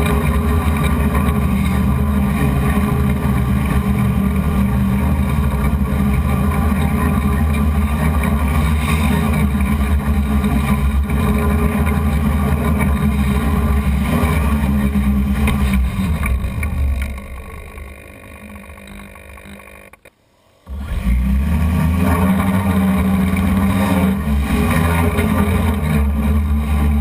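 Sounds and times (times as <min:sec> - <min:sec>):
drone motors and propellers running: 0:00.0 - 0:27.0.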